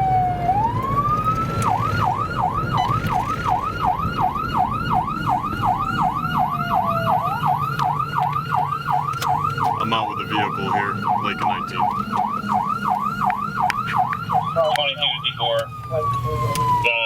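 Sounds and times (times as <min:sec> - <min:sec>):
car engine rumble: 0:00.0 - 0:17.0
police siren wail and yelp: 0:00.0 - 0:17.0.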